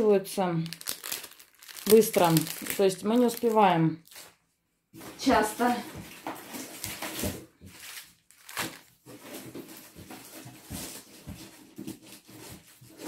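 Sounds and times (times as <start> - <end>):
plastic bags rustling: 0.6 - 13.0.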